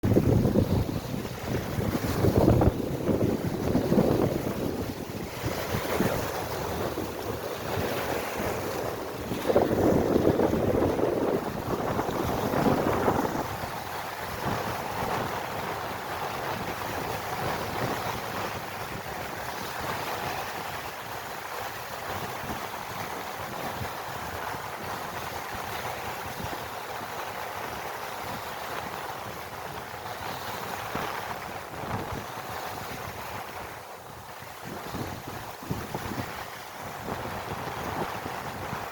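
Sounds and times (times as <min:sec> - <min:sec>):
waves on water: 0:00.0 - 0:38.9
wind buffeting microphone: 0:00.0 - 0:38.9.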